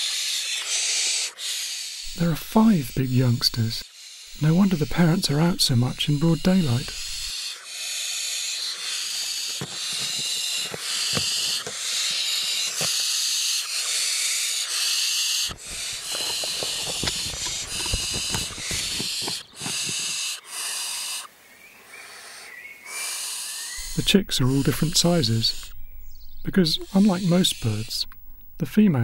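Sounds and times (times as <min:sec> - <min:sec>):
owl chicks hissing: 0:00.0 - 0:28.7.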